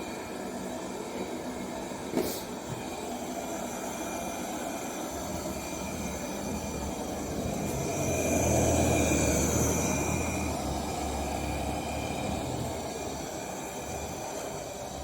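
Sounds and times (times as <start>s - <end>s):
robot vacuum cleaner whirring: 0.0s - 15.0s.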